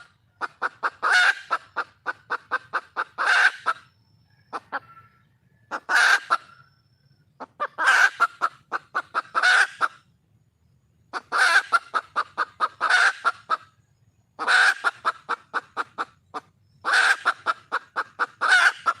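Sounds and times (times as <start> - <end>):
hen clucking: 0.0 - 3.9, 4.5 - 6.7, 7.4 - 10.0, 11.1 - 13.8, 14.4 - 19.0.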